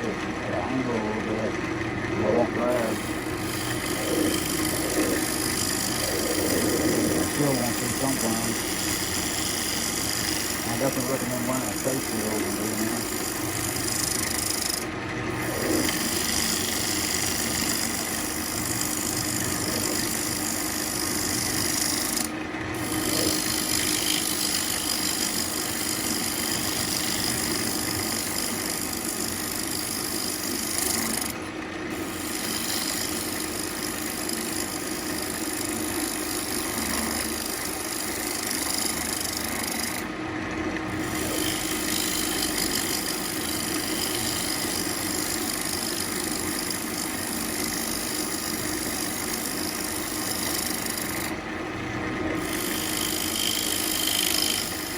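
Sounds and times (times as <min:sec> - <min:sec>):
lathe motor hum: 0:00.0 - 0:54.9
lathe tool scraping wood: 0:00.0 - 0:54.9.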